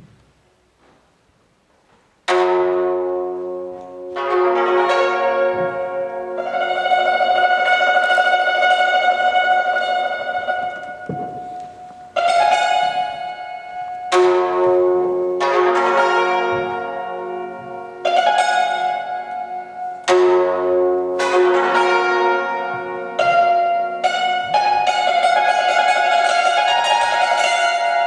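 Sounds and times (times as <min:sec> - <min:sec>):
hammered dulcimer notes: 0:02.2 - 0:28.0.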